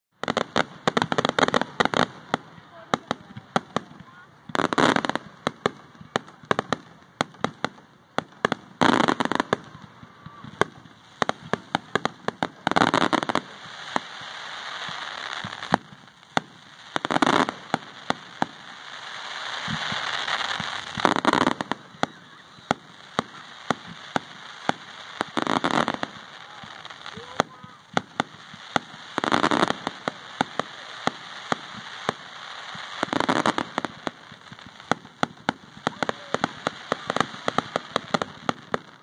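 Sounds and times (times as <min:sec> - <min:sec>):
fireworks cracking: 0:00.2 - 0:39.0
heavy firework bursts: 0:00.2 - 0:39.0
rising hiss and crackle: 0:00.2 - 0:39.0.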